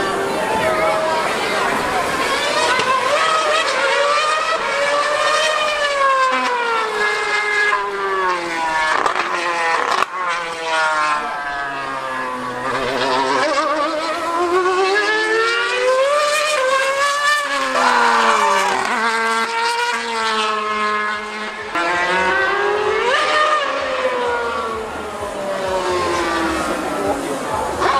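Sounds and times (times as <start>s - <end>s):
racing car engine screaming: 0.0s - 27.9s.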